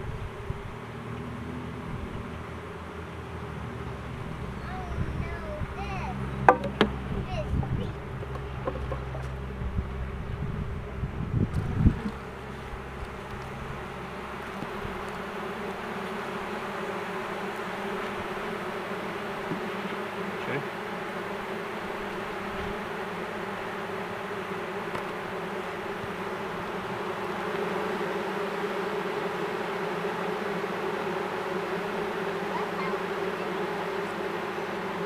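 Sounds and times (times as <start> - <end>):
honeybees buzzing: 0.0 - 35.0.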